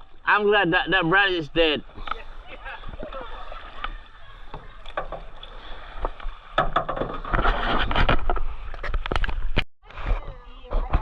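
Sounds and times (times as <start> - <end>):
river water splashing: 0.0 - 9.6.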